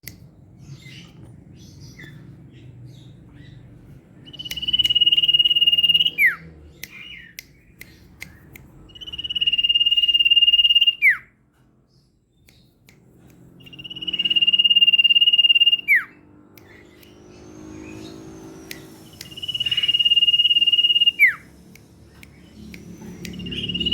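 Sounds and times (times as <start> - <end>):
soft bird chirps: 0.0 - 23.9
bird singing rapid trills: 0.6 - 11.3, 13.4 - 23.9.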